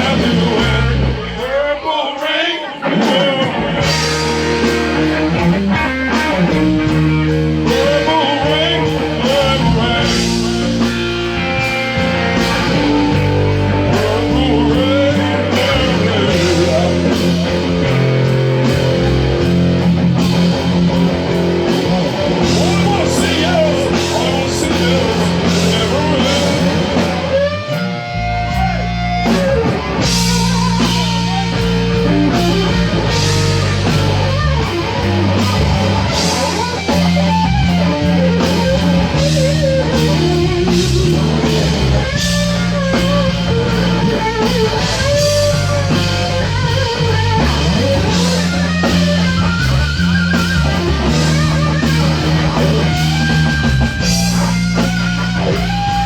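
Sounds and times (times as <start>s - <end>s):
drum kit: 0.0s - 1.6s, 2.8s - 56.0s
bass guitar: 0.0s - 56.0s
electric guitar lead: 0.0s - 56.0s.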